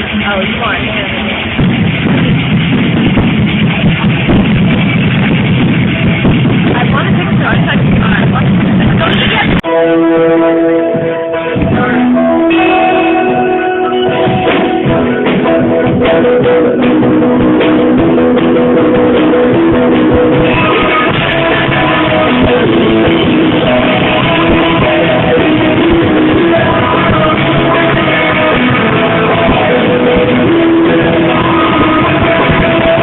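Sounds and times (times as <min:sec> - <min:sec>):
drum hits: 0:00.0 - 0:33.0
live rock band: 0:00.0 - 0:33.0.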